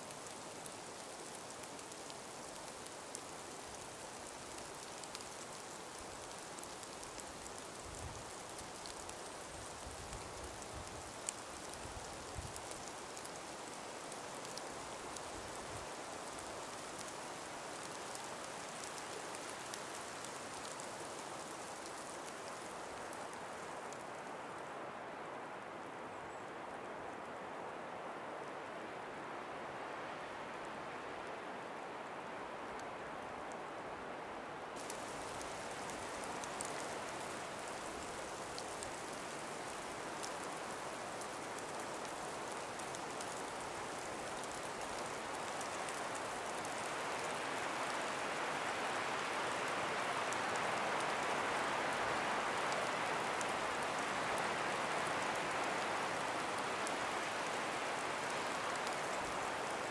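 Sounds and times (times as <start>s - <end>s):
breeze through snowy trees: 0.0s - 59.9s.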